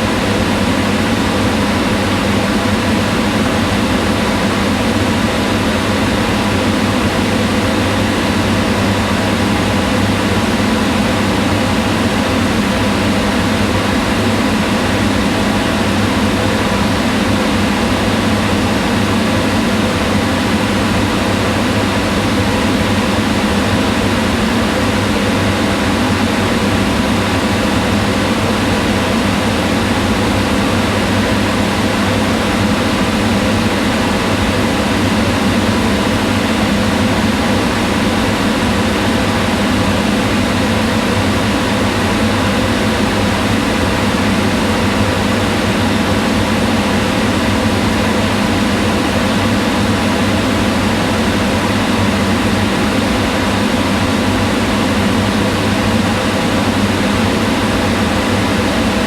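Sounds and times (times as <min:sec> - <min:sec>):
range hood fan running: 0:00.0 - 0:59.0.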